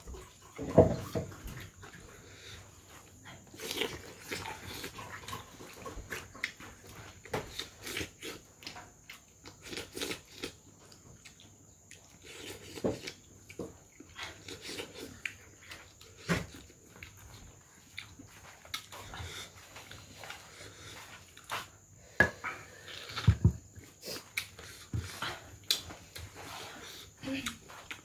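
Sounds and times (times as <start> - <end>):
man chewing and lip-smacking: 2.6 - 21.9, 22.8 - 28.0.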